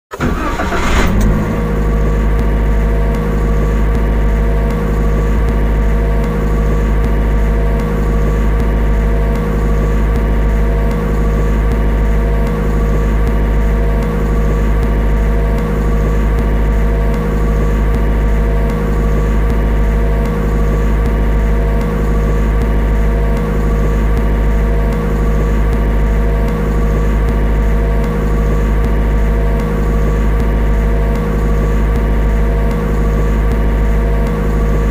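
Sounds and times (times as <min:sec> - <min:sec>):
car engine starting: 0:00.0 - 0:34.9
car engine idling: 0:00.1 - 0:34.9.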